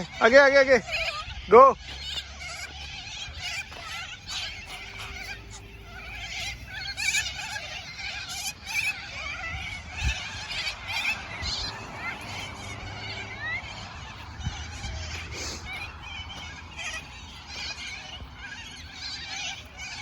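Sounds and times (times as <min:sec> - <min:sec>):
parrots chattering: 0:00.0 - 0:20.0.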